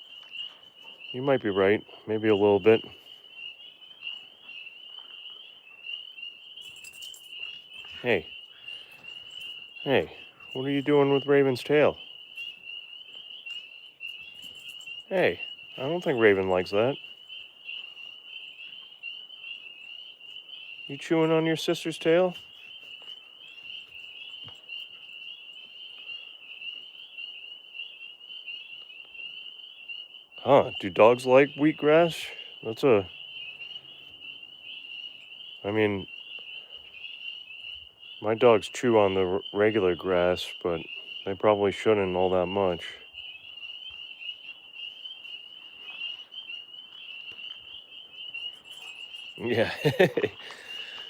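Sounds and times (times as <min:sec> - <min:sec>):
high-pitched trilling animal chorus: 0:00.0 - 0:51.0.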